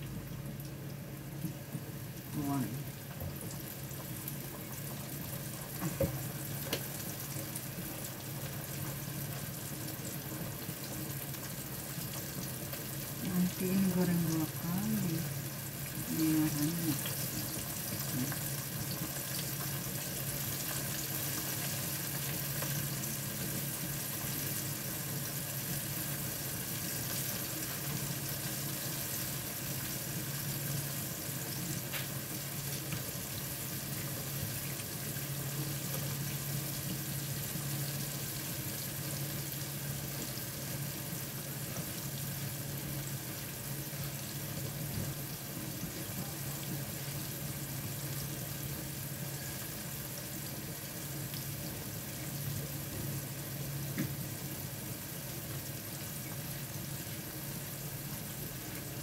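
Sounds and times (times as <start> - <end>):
chicken deep-frying in oil: 0.0 - 59.0.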